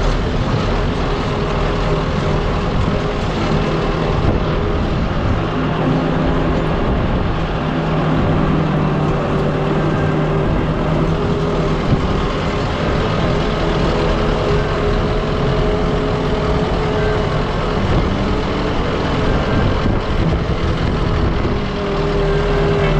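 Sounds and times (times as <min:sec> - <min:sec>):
tractor engine running: 0:00.0 - 0:22.9.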